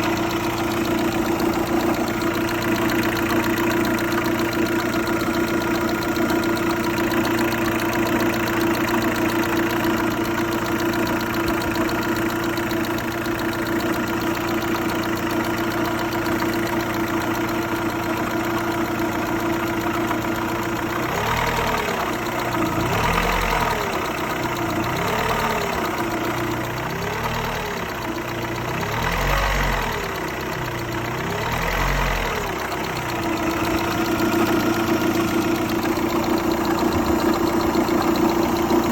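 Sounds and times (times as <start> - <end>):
car engine idling with knocking: 0.0 - 38.9.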